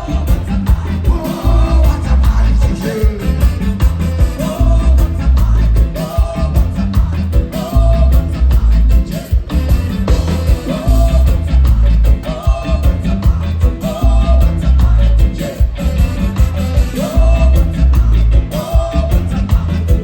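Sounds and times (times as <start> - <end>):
live reggae band with singing: 0.0 - 20.0.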